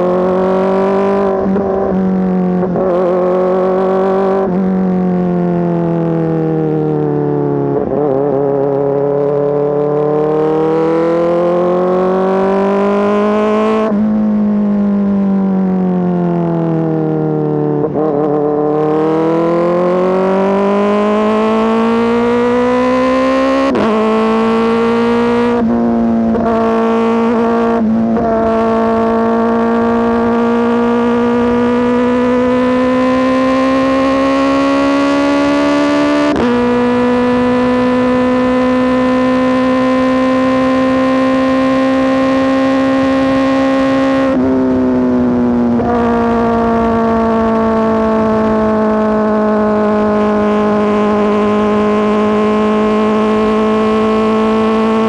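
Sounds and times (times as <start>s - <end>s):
motorcycle engine running loud: 0.0s - 55.0s.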